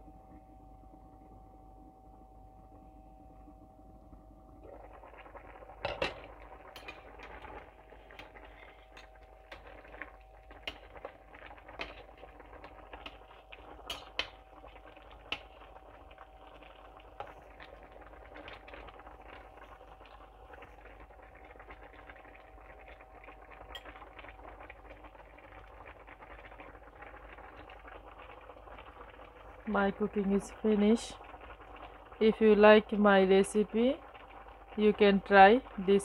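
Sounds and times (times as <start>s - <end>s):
sauce bubbling in a pan: 4.6s - 36.0s.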